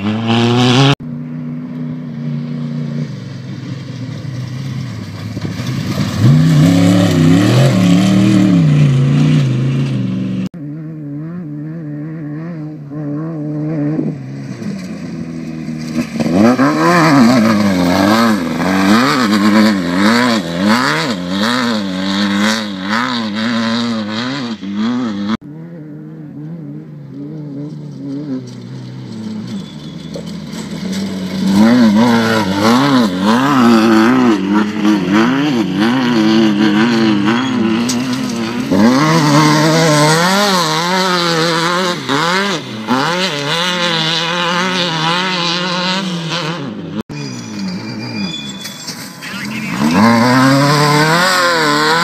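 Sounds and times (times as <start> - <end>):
race buggy engines at full throttle: 0.0 - 52.0.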